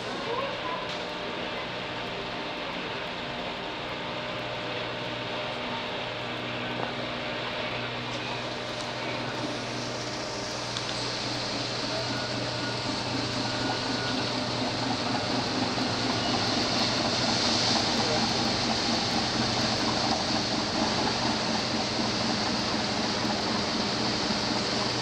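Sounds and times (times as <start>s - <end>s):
ferry engines humming: 0.0s - 25.0s
churning water wash: 4.8s - 25.0s.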